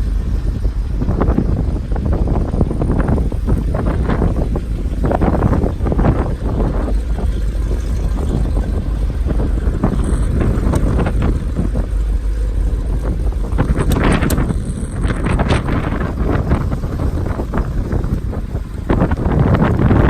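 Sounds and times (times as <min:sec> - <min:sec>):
car engine low rumble: 0:00.0 - 0:20.0
wind buffeting microphone: 0:00.0 - 0:20.0.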